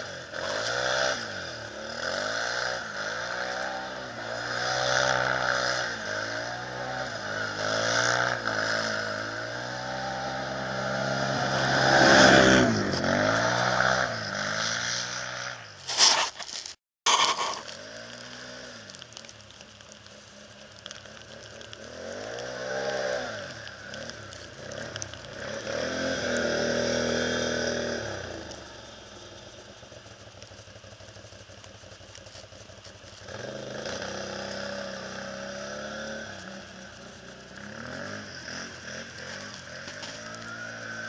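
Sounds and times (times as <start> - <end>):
atv engine revving: 0.0 - 15.8, 17.1 - 41.0.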